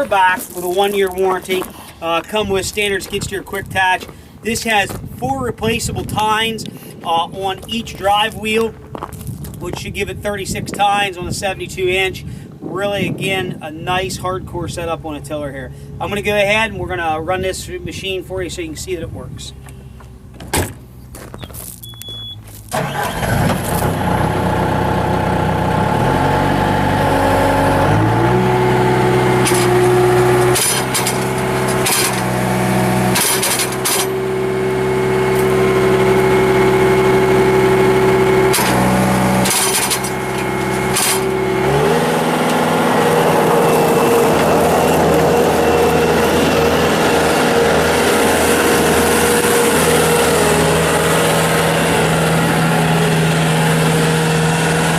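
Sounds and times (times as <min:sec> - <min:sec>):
diesel engine starting and running: 0:00.0 - 0:54.9.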